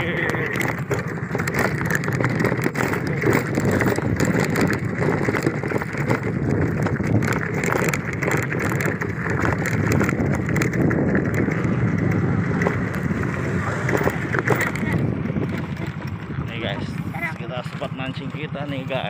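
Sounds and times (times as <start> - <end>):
jolts and rattles: 0.0 - 16.0
motorcycle engine: 0.0 - 19.0
wind buffeting on microphone: 0.0 - 19.0.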